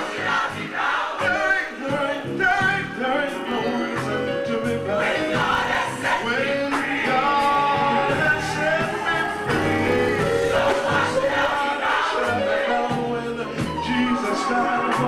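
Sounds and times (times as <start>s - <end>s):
choir singing: 0.0s - 2.3s, 3.3s - 15.0s
man singing into a microphone: 1.2s - 9.7s, 10.8s - 15.0s.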